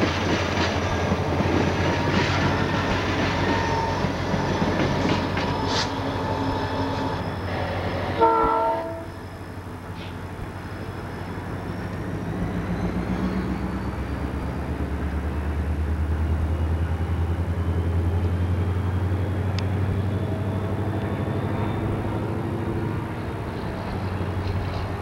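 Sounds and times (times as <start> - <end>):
diesel locomotives rolling past: 0.0 - 25.0.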